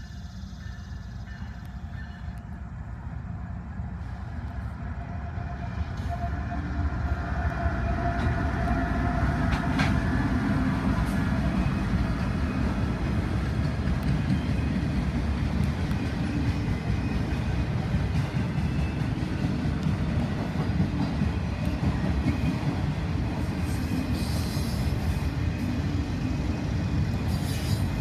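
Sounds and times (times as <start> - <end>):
diesel locomotive passing: 0.0 - 28.0
freight cars rolling on rails: 0.0 - 28.0.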